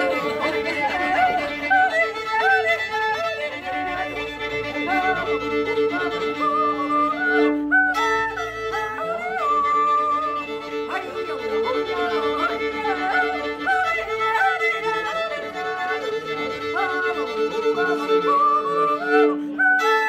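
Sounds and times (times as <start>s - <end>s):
solo violin with drone: 0.0s - 20.0s.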